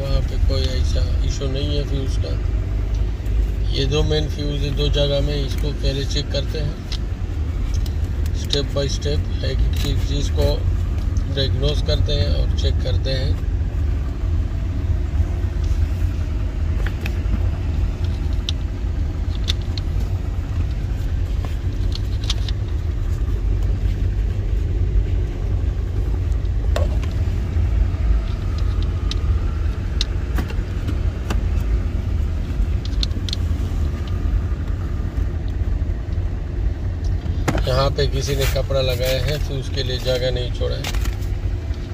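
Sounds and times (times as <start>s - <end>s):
low rumble: 0.0s - 41.9s.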